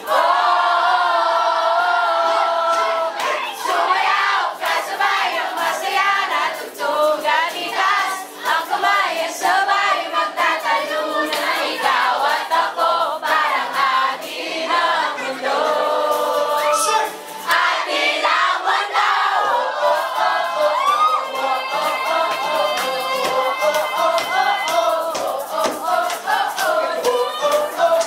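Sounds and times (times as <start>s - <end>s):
crowd singing along: 0.0s - 28.0s.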